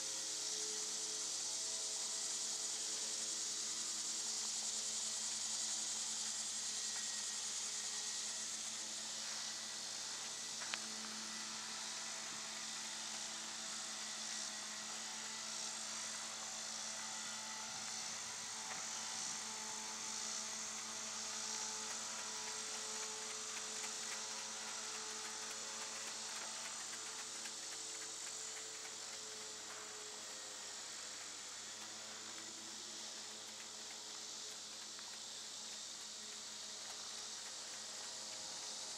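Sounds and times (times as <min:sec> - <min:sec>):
high insect buzz: 0:00.0 - 0:38.9
motor hum: 0:05.6 - 0:38.9.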